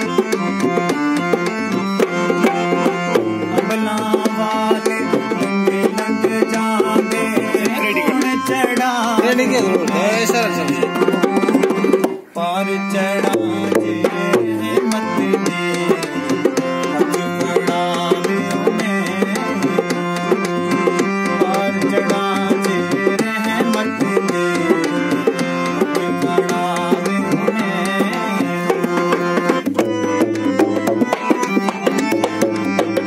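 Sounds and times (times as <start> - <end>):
dholak hand drumming: 0.0 - 33.0
harmonium chords and melody: 0.0 - 33.0.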